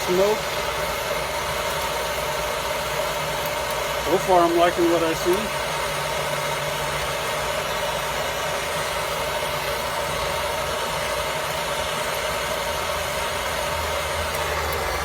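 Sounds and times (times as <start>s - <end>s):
gas torch running: 0.0s - 15.0s.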